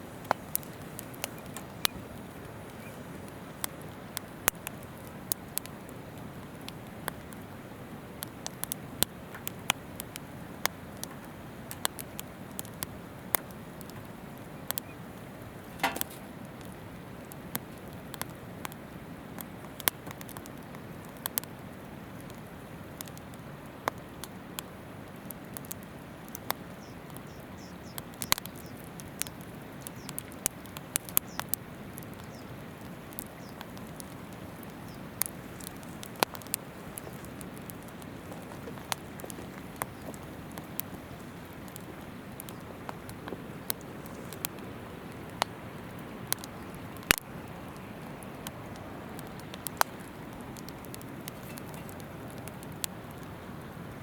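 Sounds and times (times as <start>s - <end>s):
shallow river murmur: 0.0s - 19.6s, 20.8s - 54.0s
campfire crackling and popping: 0.0s - 54.0s.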